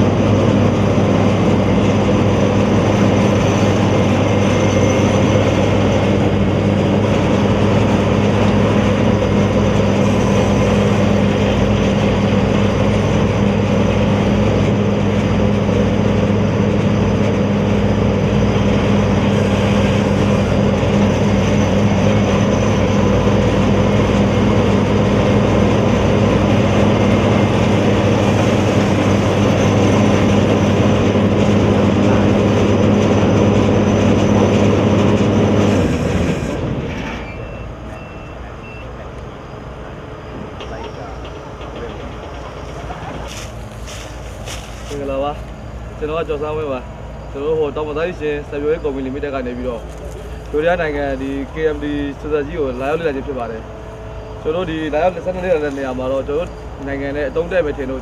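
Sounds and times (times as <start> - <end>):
combine harvester drone: 0.0 - 58.0.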